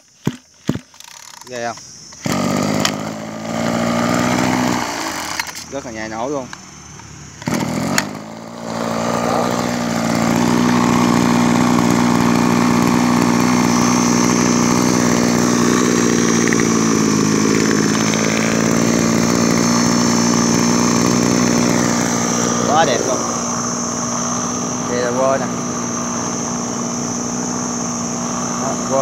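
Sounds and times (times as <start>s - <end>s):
brush cutter engine running: 0.0s - 29.0s.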